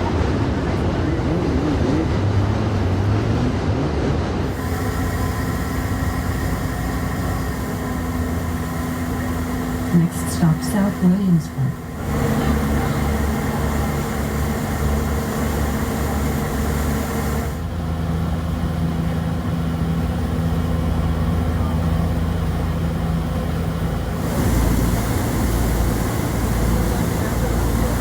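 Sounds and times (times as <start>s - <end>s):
ferry engines droning: 0.0s - 28.0s.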